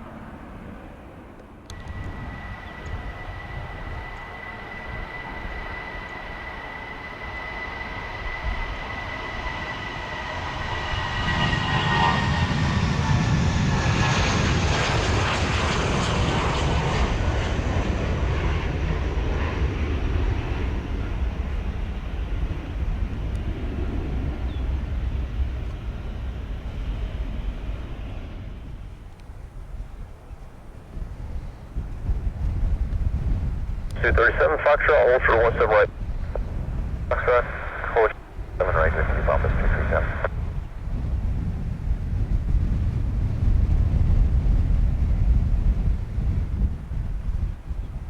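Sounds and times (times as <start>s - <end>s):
jet engine high whine: 0.0s - 48.0s
jet engine roar: 0.0s - 48.0s.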